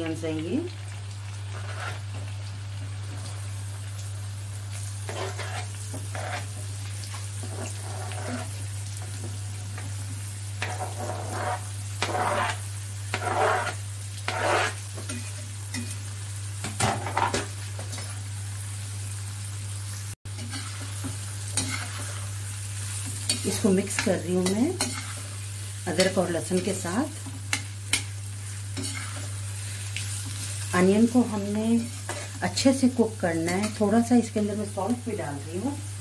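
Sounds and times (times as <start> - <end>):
onions sizzling in hot fat: 0.0 - 36.0.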